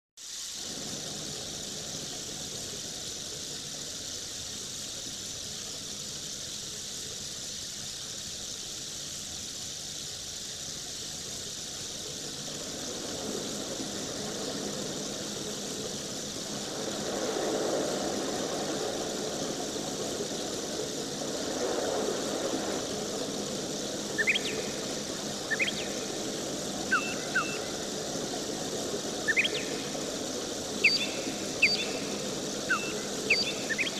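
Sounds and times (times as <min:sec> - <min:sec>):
machine hum and hiss: 0:00.2 - 0:33.9.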